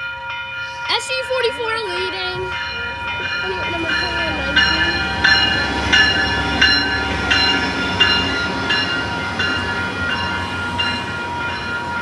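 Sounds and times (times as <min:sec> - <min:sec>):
bell ringing in slow strokes: 0:00.0 - 0:12.0
train rumbling: 0:00.0 - 0:12.0.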